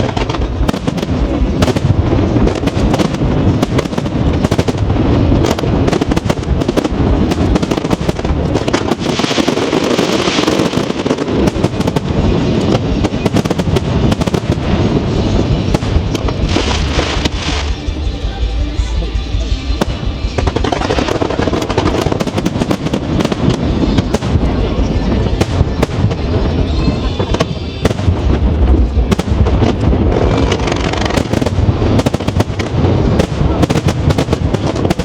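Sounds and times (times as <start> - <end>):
fireworks booms and bangs: 0.0 - 35.0
fireworks crackling: 0.0 - 35.0.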